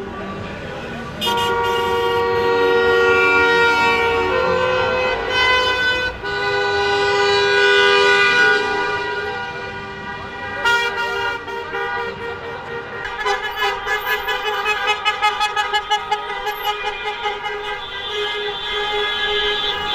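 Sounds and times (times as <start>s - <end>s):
car horns blowing: 1.2s - 19.9s.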